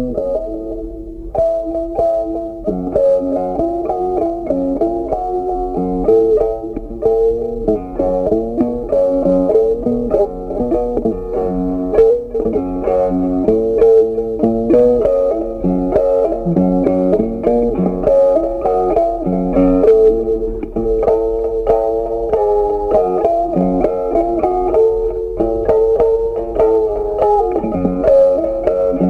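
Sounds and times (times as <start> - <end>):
plucked guitar melody: 0.0 - 29.0.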